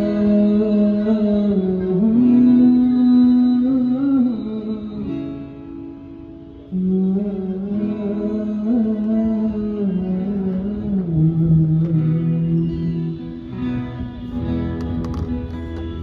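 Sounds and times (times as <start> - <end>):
guitar playing: 0.0 - 16.0.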